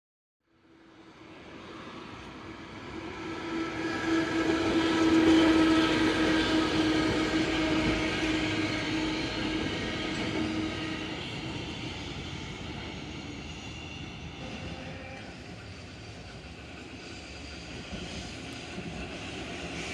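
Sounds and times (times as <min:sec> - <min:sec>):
streetcar passing: 0:00.5 - 0:19.9
wheels on rails: 0:02.2 - 0:19.9.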